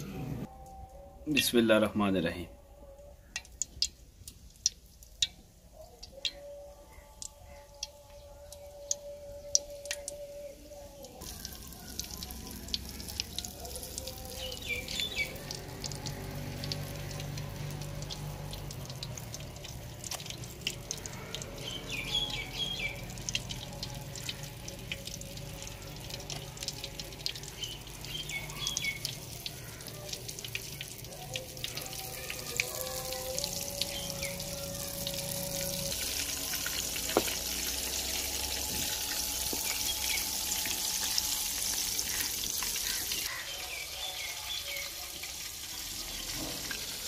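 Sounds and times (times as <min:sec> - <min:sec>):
chicken deep-frying in oil: 0:03.2 - 0:47.0.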